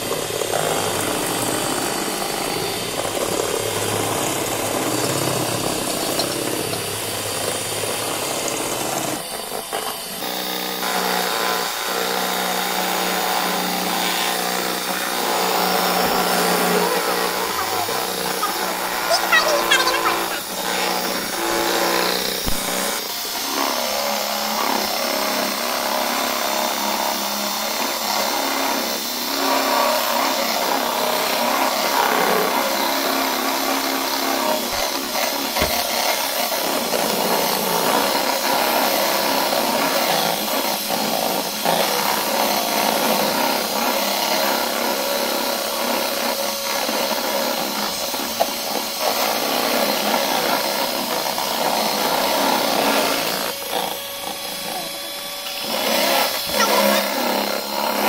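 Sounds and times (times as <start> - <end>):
electric hand mixer whipping: 0.0 - 58.0.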